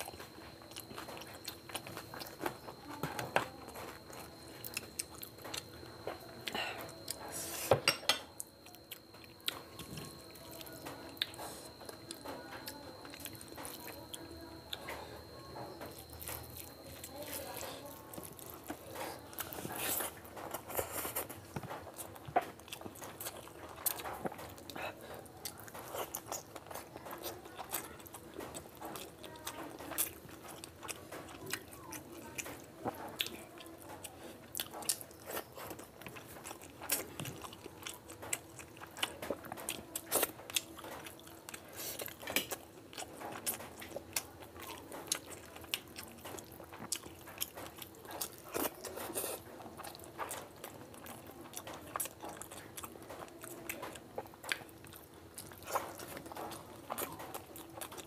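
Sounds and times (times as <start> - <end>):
person chewing with wet clicks: 0.0 - 7.3, 8.3 - 58.0
faint steady hum: 0.0 - 58.0.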